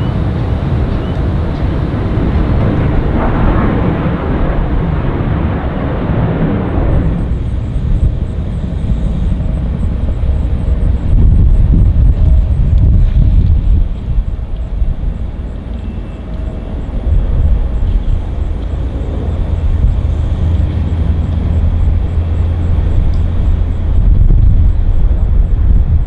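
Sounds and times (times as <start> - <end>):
jet engine hiss: 0.0 - 25.9
jet airliner engines rumbling: 0.0 - 26.0.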